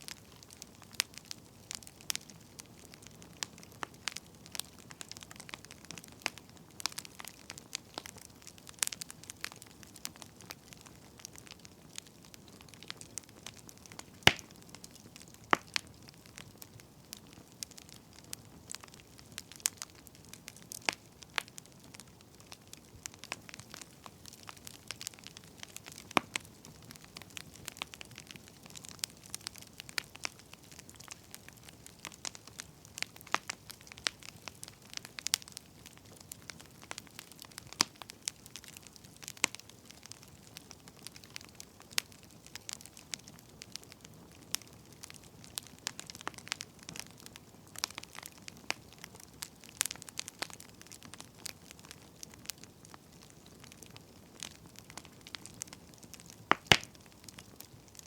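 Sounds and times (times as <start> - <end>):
firewood crackling and popping: 0.0 - 58.0
soft steady hiss: 0.0 - 58.0.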